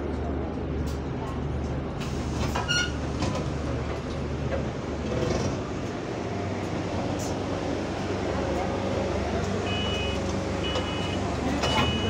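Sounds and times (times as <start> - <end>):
bus engine idling: 0.3 - 12.0.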